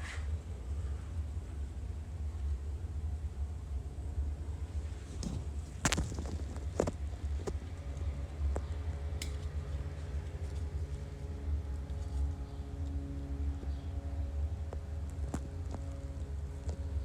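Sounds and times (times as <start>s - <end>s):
steady low rumble: 0.3s - 17.0s.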